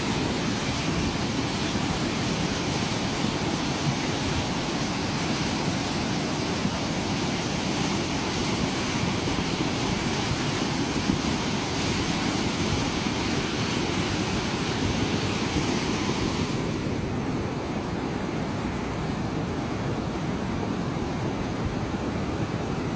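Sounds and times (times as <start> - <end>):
flood water rushing: 0.0 - 22.9
wind buffeting microphone: 0.0 - 22.9.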